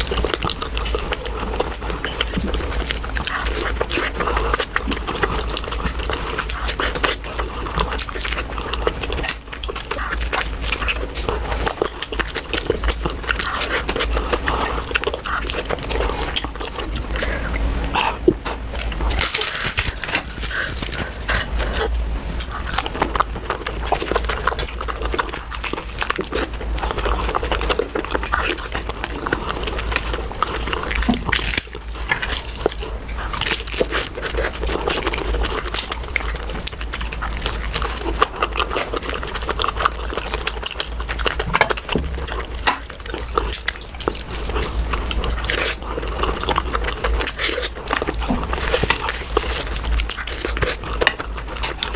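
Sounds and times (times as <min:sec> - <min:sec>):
steady low hum: 0:00.0 - 0:51.9
wet chewing and slurping: 0:00.0 - 0:51.9.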